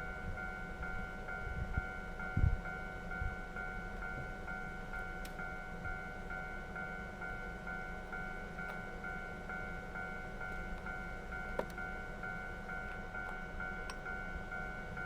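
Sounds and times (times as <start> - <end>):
electronic level crossing bell: 0.1 - 15.0.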